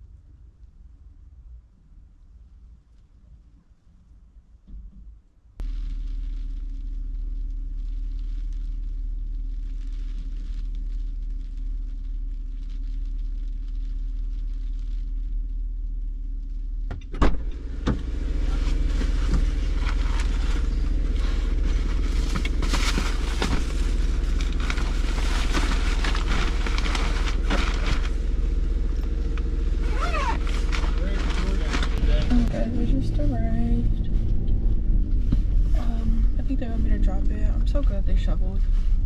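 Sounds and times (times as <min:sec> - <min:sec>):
car engine running: 0:05.6 - 0:39.0.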